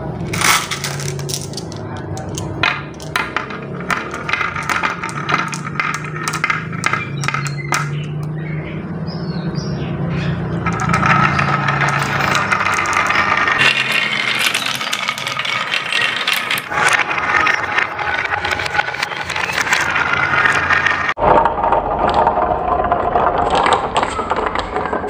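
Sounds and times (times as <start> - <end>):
marbles clacking in wooden run: 0.1 - 8.5, 10.4 - 25.0.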